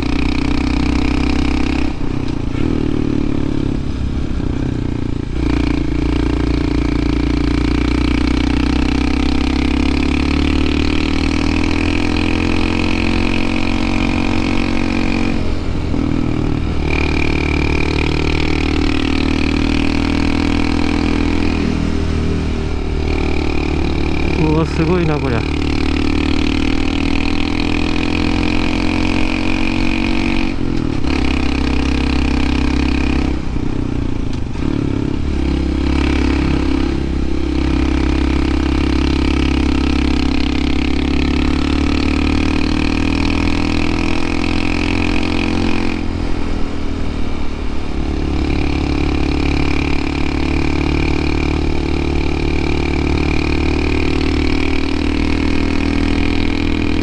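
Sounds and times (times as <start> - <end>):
motorcycle engine pulling hard uphill: 0.0 - 57.0.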